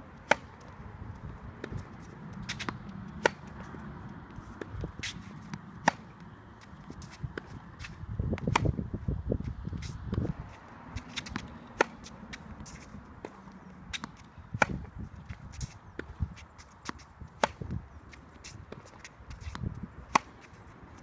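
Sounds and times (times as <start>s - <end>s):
racket hitting tennis ball: 0.2s - 0.8s, 1.6s - 8.9s, 9.7s - 20.6s
footsteps scuffing on court: 0.5s - 8.6s, 9.4s - 21.0s.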